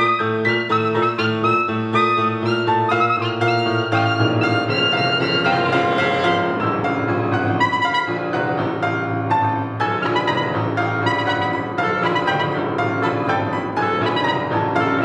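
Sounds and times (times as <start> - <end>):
clarinet melody: 0.0 - 15.0
piano notes and chords: 0.0 - 15.0.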